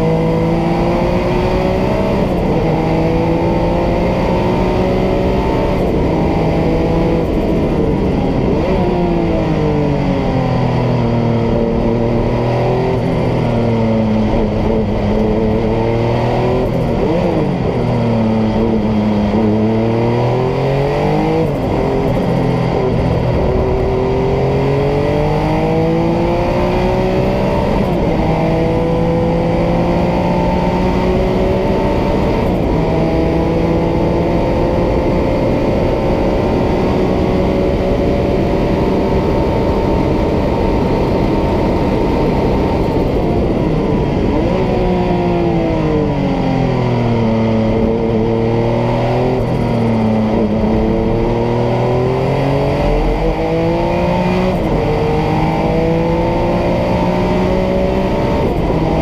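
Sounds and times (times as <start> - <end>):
race car engine at full throttle: 0.0 - 59.0.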